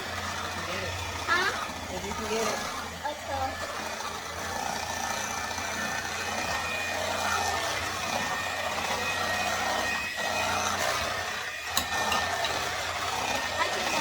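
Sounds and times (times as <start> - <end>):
appliance motor whirring: 0.0 - 14.0.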